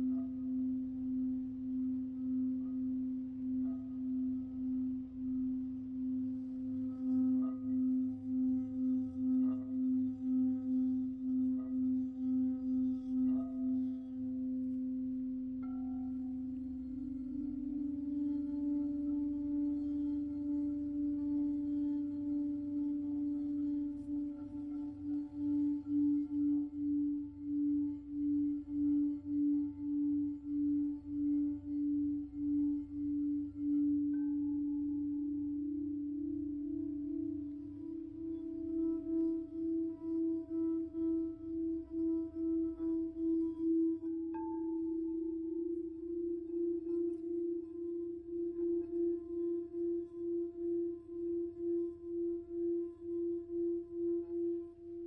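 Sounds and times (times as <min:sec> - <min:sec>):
higher-pitched singing bowl: 0:00.0 - 0:55.0
low singing bowl tone: 0:00.0 - 0:55.0.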